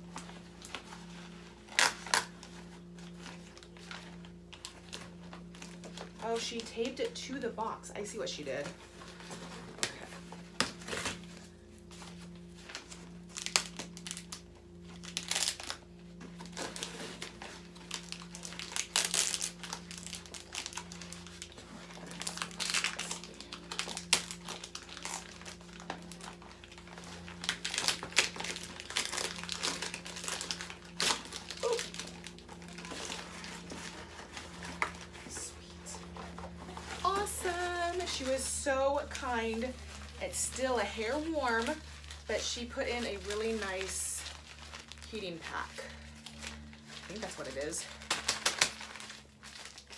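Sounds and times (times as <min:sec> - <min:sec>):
packaging crinkling and rustling: 0:00.0 - 0:07.5, 0:08.1 - 0:49.9.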